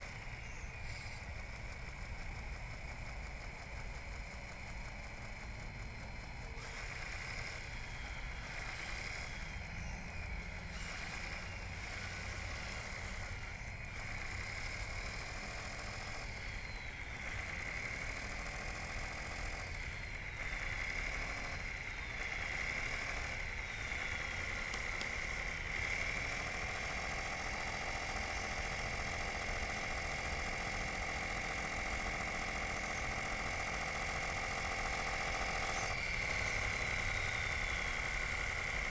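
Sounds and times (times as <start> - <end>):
model bulldozer motor whine: 0.0 - 38.9.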